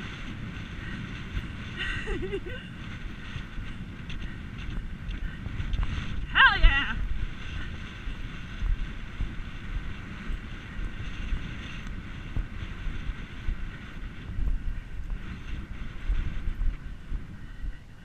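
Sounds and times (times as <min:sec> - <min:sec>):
horse hoofbeats: 0:00.0 - 0:17.9
wind buffeting microphone: 0:00.0 - 0:18.0.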